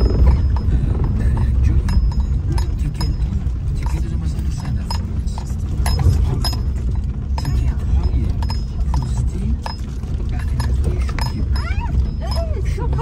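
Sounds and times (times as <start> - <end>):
light rattles: 0.0 - 13.0
tyres rumbling on dirt road: 0.0 - 13.0.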